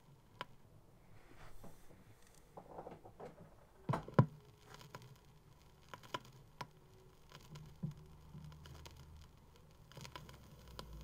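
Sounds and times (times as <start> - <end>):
record surface noise: 0.0 - 11.0.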